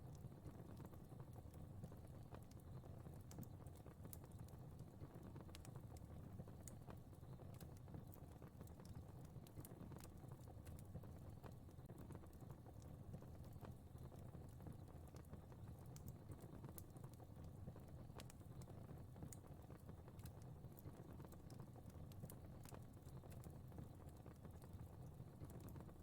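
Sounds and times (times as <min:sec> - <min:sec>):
low rumble of flames: 0:00.0 - 0:26.0
fire crackling and popping: 0:00.1 - 0:26.0.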